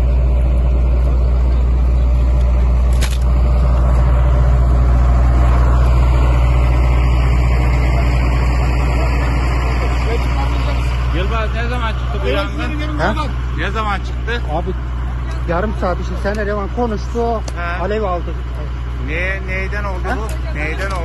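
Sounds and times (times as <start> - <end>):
large vehicle engine humming: 0.0 - 21.0.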